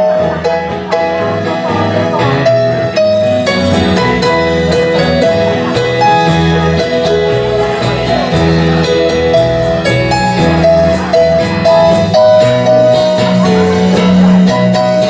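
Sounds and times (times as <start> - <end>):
guitar playing: 0.0 - 15.0
keyboard playing: 0.0 - 15.0
steady beat: 0.0 - 15.0.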